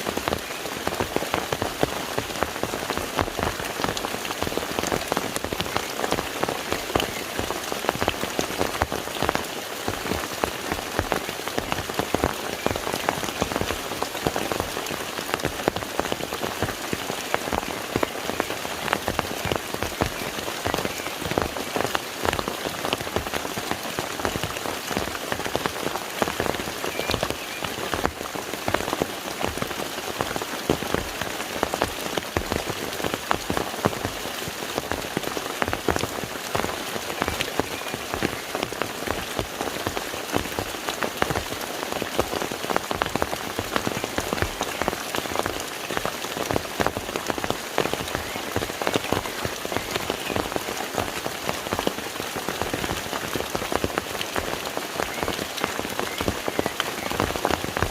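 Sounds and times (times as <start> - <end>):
rain falling on a lake: 0.0 - 57.9.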